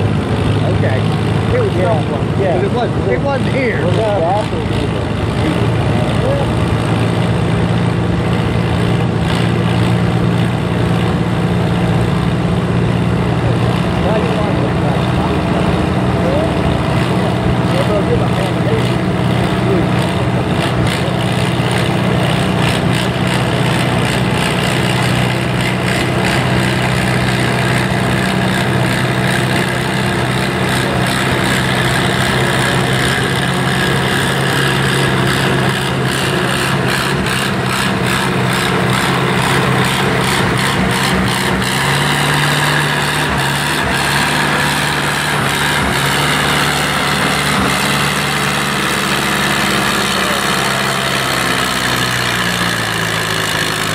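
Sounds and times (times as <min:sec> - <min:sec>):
tractor engine under load: 0:00.0 - 0:53.9.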